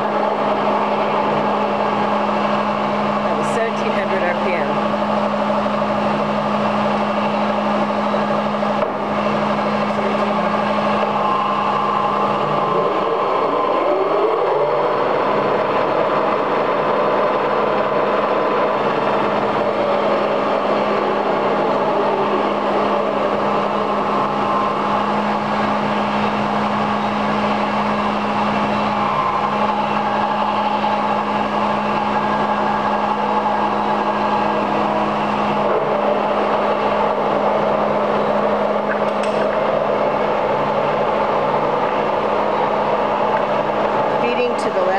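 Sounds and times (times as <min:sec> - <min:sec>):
lathe motor humming: 0:00.0 - 0:44.9
spindle whine rising: 0:00.0 - 0:44.9.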